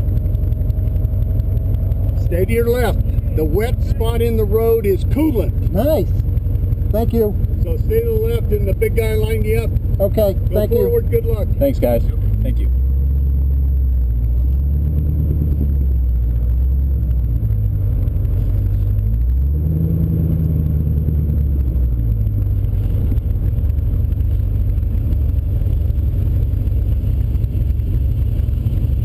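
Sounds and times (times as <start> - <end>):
car engine at low revs: 0.0 - 29.0.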